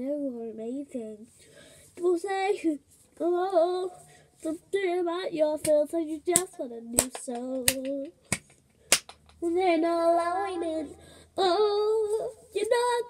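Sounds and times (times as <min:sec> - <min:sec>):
girl singing unaccompanied: 0:00.0 - 0:08.3, 0:09.4 - 0:13.0.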